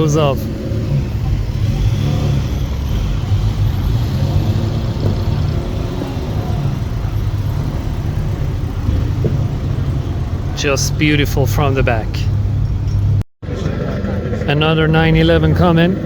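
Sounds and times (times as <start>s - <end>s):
car engine driving off: 0.0s - 16.0s.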